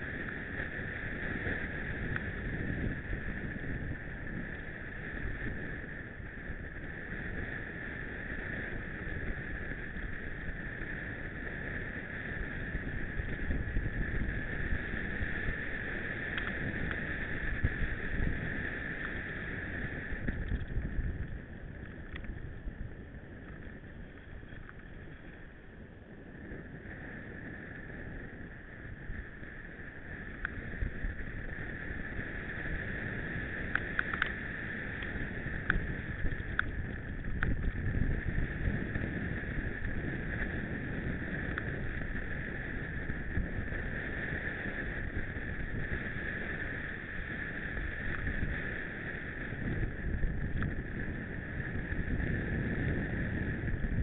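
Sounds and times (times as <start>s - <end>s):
bike tyres rumbling on dirt: 0.0s - 54.0s
wind on microphone: 0.0s - 54.0s.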